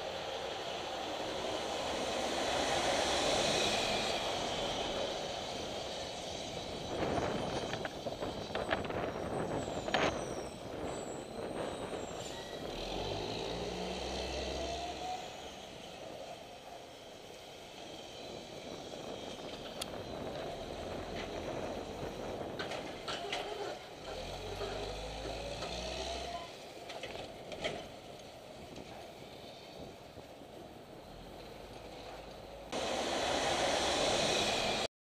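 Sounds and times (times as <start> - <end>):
road and wind noise: 0.0 - 34.9
truck diesel engine with whine: 0.0 - 34.9.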